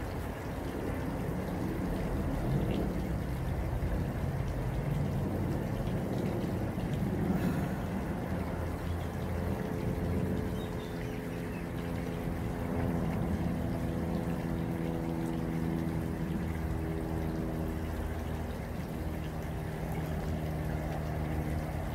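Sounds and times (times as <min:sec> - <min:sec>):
low steady hum: 0:00.0 - 0:21.9
water pouring into pond: 0:00.0 - 0:21.9.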